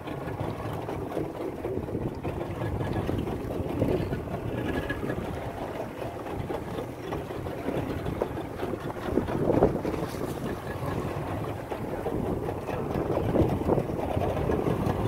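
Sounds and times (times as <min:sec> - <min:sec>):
boat motor running: 0:00.0 - 0:15.0
water: 0:00.0 - 0:15.0
wind: 0:00.0 - 0:15.0.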